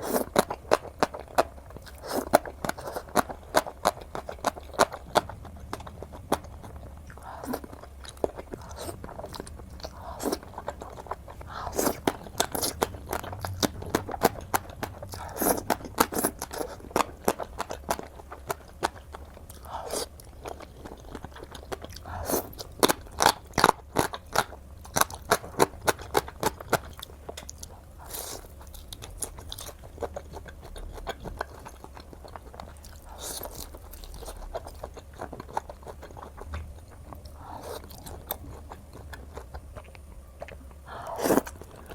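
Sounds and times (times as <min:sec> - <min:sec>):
person chewing crunchy food: 0:00.0 - 0:41.9.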